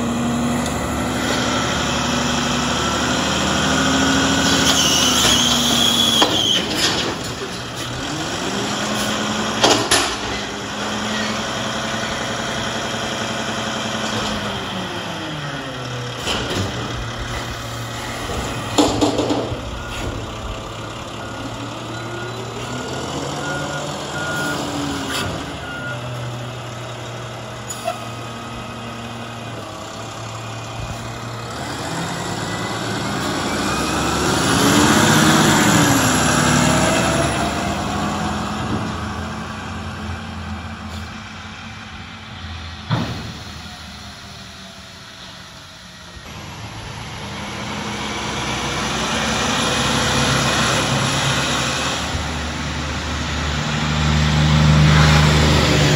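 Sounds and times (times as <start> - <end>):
garbage truck engine revving: 0.0 - 55.9.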